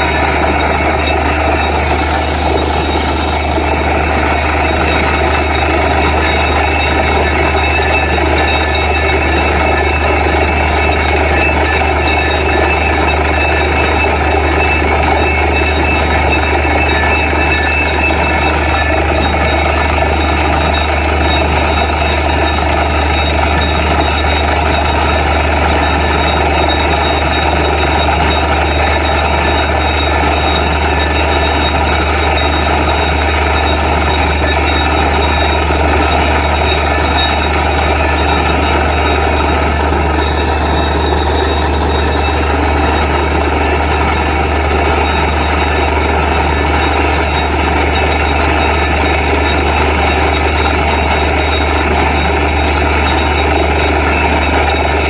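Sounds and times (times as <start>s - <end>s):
drilling rig engine droning: 0.0s - 55.0s.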